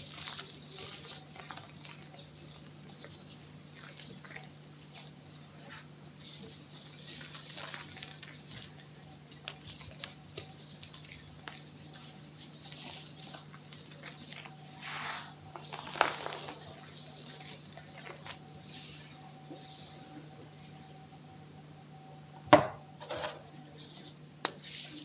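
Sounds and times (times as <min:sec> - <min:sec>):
chalk crunching and crackling: 0:00.0 - 0:21.0, 0:23.4 - 0:25.0.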